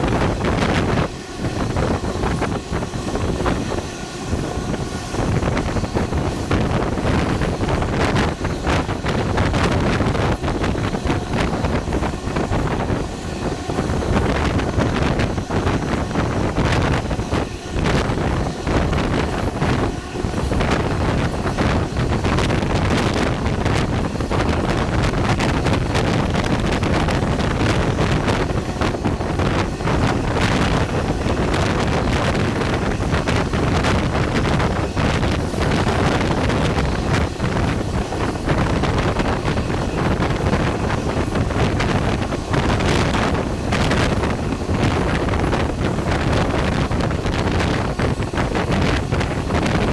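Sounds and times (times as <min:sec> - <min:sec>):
train wheels rumbling on rails: 0:00.0 - 0:49.9
wind buffeting microphone: 0:00.0 - 0:49.9.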